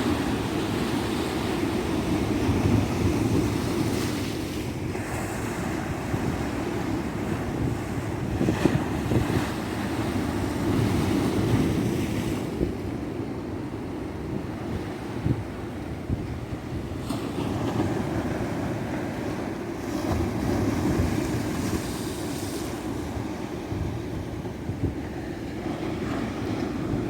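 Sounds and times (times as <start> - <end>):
ocean surf breaking on beach: 0.0 - 27.0
wind rumble on microphone: 0.0 - 27.0.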